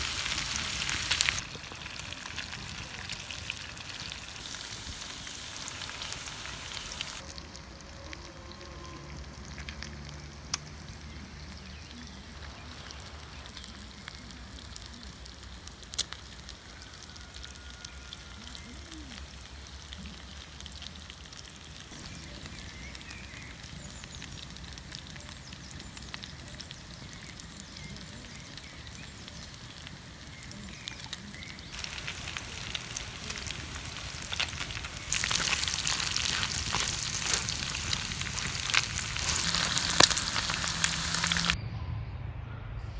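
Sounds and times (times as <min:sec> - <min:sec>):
wood fire crackling and popping: 0:00.0 - 0:08.3, 0:08.9 - 0:41.6
food sizzling in a pan: 0:00.0 - 0:41.6
steady rain: 0:00.0 - 0:41.6.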